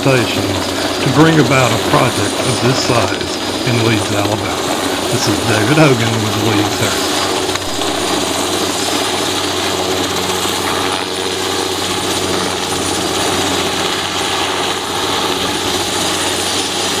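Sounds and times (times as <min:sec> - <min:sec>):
helicopter rotor and engine drone: 0:00.0 - 0:17.0.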